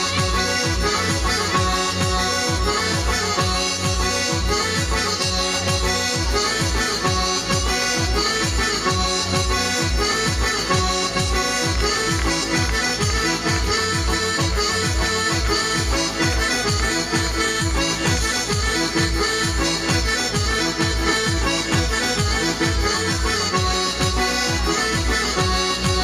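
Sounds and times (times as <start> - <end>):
folk dance music: 0.0 - 26.0.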